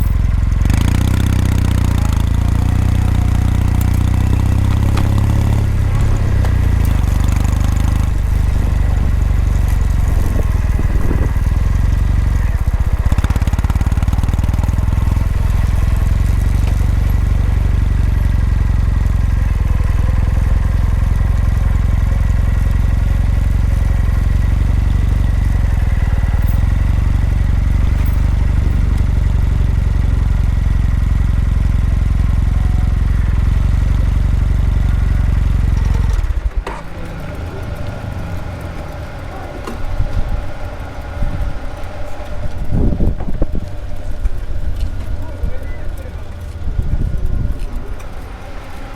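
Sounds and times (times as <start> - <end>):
motorcycle exhaust running: 0.0 - 48.9.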